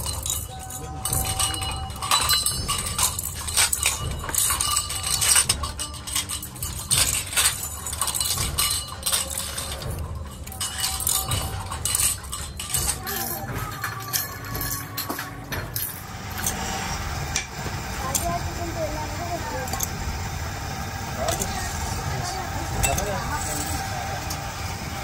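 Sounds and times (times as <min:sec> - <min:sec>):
metal springs clinking: 0:00.0 - 0:25.0
steady low hum: 0:00.0 - 0:25.0.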